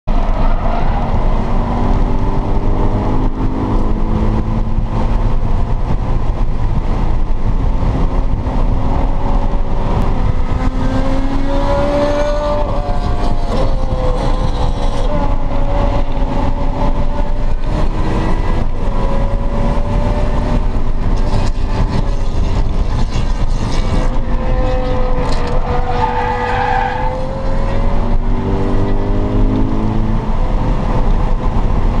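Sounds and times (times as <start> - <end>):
car engine accelerating: 0.1 - 32.0.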